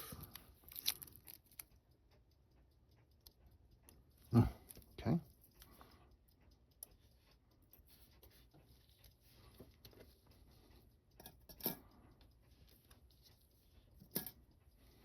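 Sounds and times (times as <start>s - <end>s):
small clicks of watchmaking tools: 0.0s - 15.0s.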